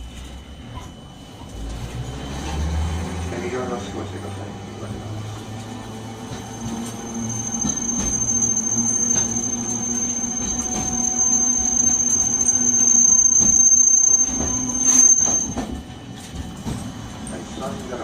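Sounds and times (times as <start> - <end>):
low rumble of tram car: 0.0 - 18.0
tram wheels squealing on rails: 0.0 - 18.0.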